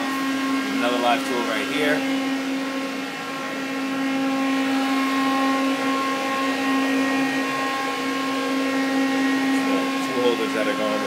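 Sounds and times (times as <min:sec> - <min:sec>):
lathe machine hum with whine: 0:00.0 - 0:11.0.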